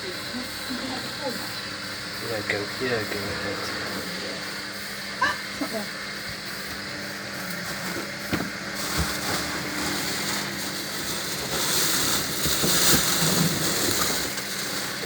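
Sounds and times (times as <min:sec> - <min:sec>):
washer motor hum: 0:00.0 - 0:15.0.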